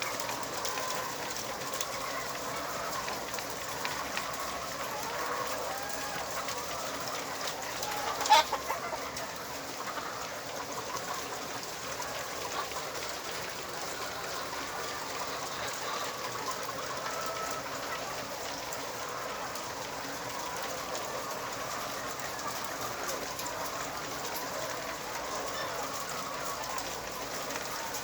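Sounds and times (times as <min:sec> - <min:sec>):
hens clucking and murmuring: 0:00.0 - 0:28.0.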